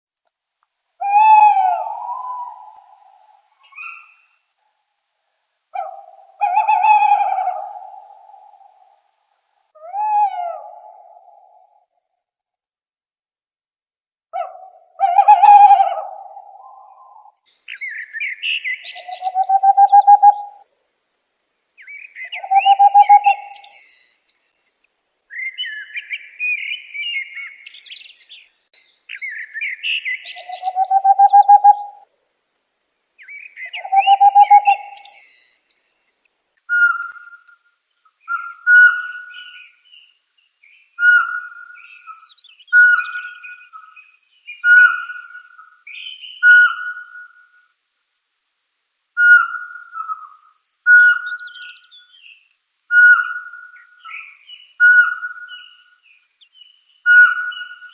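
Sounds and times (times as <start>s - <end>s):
bird calling with trills and chirps: 1.0s - 4.5s, 5.8s - 9.0s, 14.4s - 20.6s, 21.8s - 32.1s, 33.2s - 47.7s, 49.2s - 57.9s.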